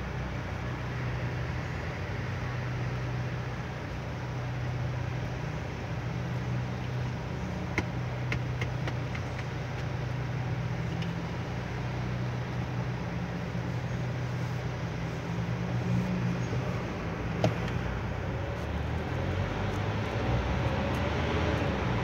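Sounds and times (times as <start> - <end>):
car engine hum and road noise: 0.0 - 22.0.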